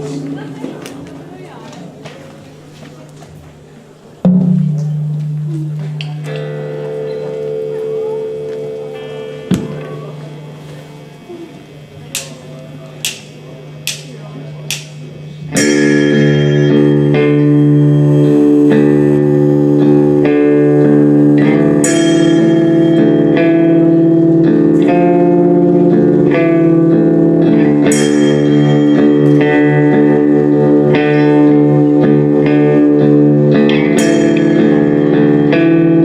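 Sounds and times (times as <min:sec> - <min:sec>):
guitar chords ringing: 0:04.2 - 0:36.0.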